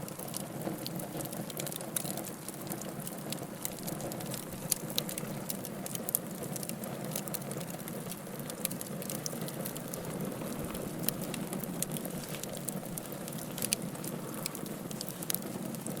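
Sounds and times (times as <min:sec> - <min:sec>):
fire crackling and popping: 0:00.0 - 0:16.0
rush of flames: 0:00.0 - 0:16.0.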